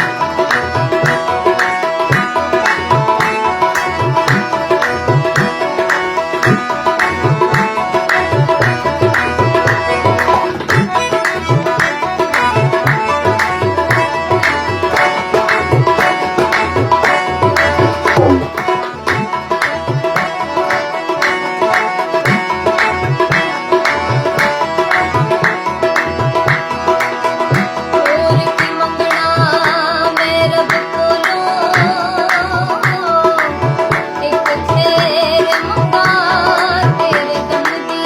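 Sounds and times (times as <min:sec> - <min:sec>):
held melodic instrument notes: 0:00.0 - 0:38.0
tabla rhythm: 0:00.0 - 0:38.0.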